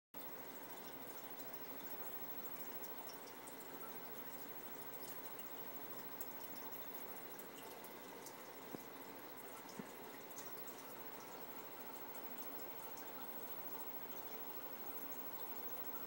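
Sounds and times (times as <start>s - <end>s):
aquarium water bubbling: 0.2s - 16.0s
drip-like ticks: 0.2s - 16.0s.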